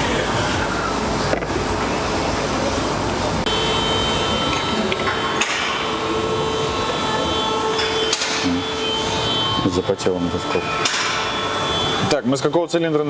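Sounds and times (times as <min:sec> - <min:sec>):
workshop background noise: 0:00.0 - 0:13.0.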